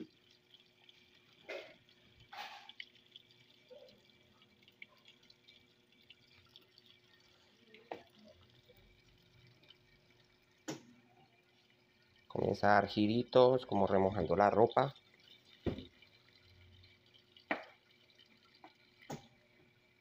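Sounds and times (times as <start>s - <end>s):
water pouring into washing machine: 0.0s - 20.0s.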